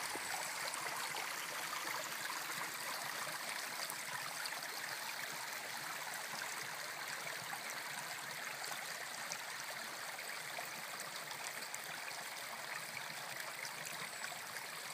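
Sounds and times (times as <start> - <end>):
water babbling down stone channel: 0.0 - 14.9.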